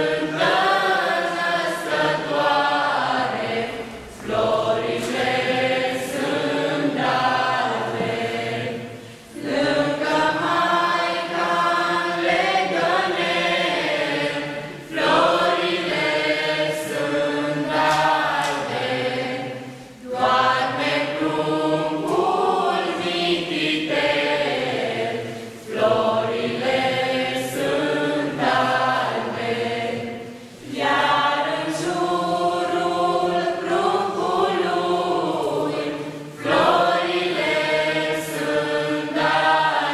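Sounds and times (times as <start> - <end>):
young singers singing a carol: 0.0 - 39.9.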